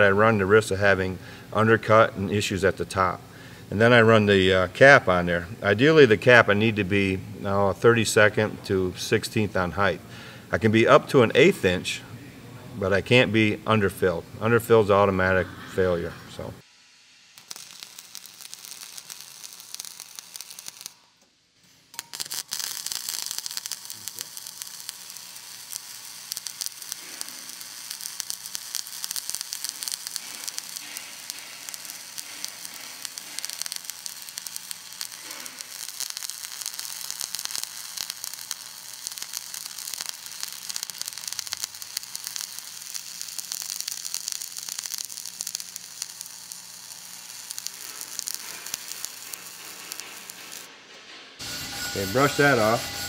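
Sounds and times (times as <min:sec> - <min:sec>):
welding arc crackling sizzle: 0:00.0 - 0:12.0, 0:12.9 - 0:50.7, 0:51.4 - 0:53.0.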